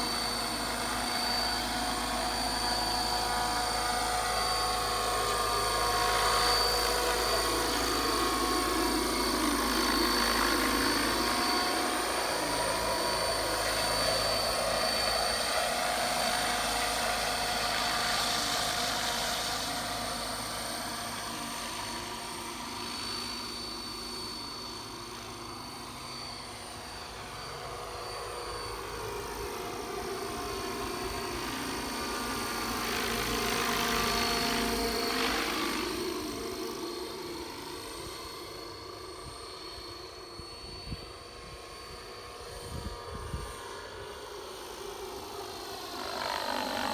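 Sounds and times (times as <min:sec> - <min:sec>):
helicopter rotor noise: 0:00.0 - 0:46.9
model helicopter motor whine: 0:00.0 - 0:46.9.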